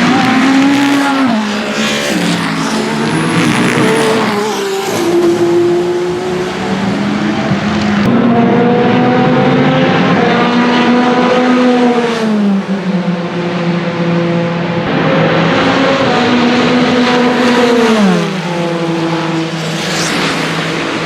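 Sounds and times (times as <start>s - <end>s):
racing car engines: 0.0s - 21.0s.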